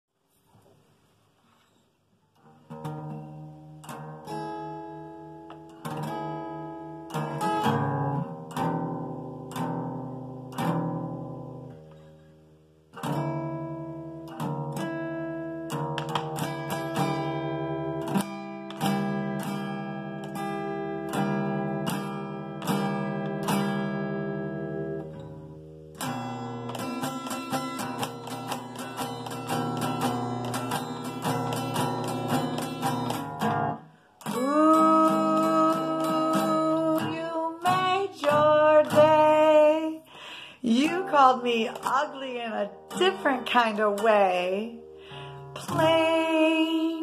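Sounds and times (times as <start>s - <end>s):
acoustic guitar strumming chords: 2.4s - 47.0s.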